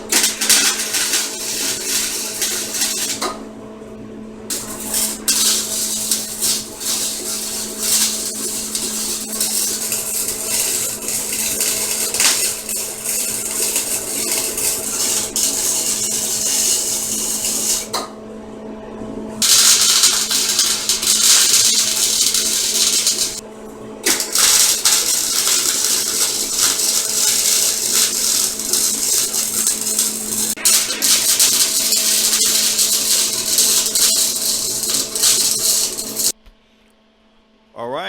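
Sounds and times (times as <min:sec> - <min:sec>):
welding arc crackling and hissing: 0:00.0 - 0:03.4, 0:04.5 - 0:18.1, 0:19.4 - 0:23.4, 0:24.0 - 0:36.4
welder machine hum: 0:00.0 - 0:18.2, 0:19.3 - 0:36.4.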